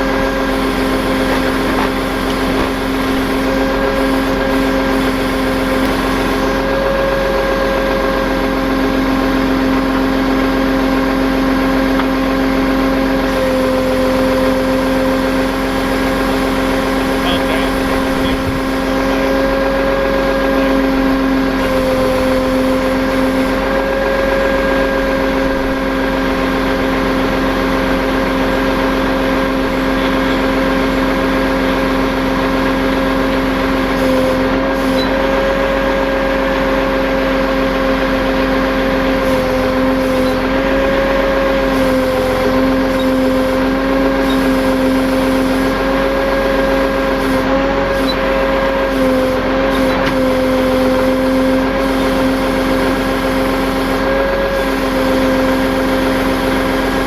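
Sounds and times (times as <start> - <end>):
low engine hum: 0.0 - 57.0
winch whine: 0.0 - 57.0.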